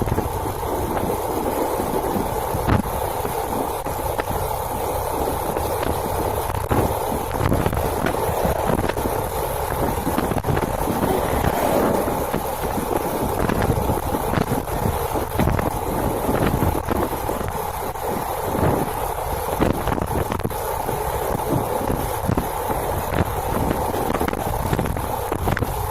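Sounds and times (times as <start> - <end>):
motorcycle engine rumble: 0.0 - 25.9
wind buffeting microphone: 0.0 - 25.9.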